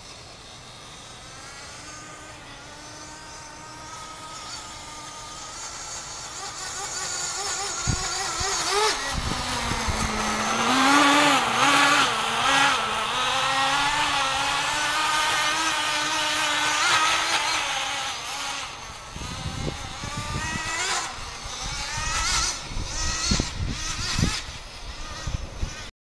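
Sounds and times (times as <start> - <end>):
small nitro engine running: 0.0 - 25.9.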